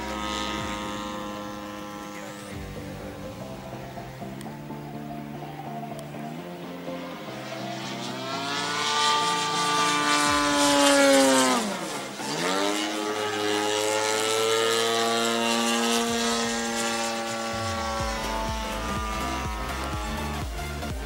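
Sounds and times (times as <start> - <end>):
model airplane engine in flight: 0.0 - 21.0.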